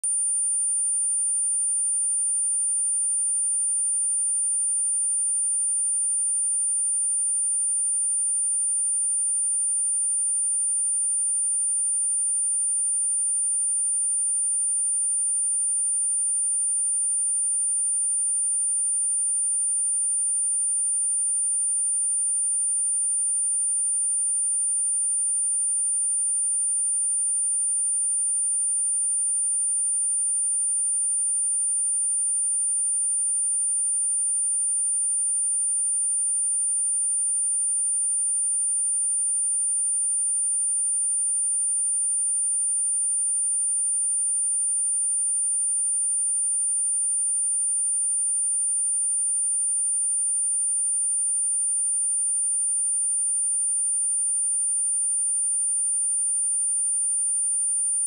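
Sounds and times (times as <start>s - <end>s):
high-pitched sine-wave test tone: 0.0s - 58.0s.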